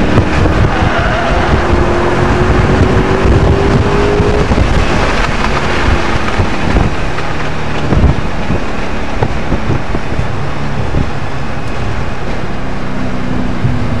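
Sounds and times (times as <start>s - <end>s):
car engine running hard: 0.0s - 14.0s
wind and road noise: 0.0s - 14.0s.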